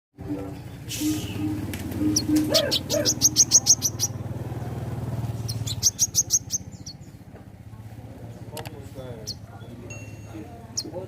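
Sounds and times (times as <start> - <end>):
songbird chirping: 0.2 - 11.0.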